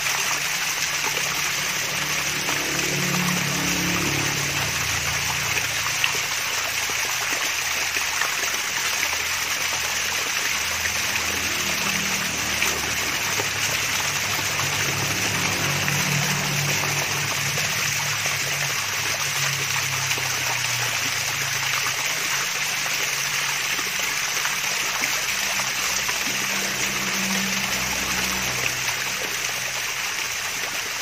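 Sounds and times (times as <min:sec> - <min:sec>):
small waterfall trickling and splashing: 0:00.0 - 0:31.0.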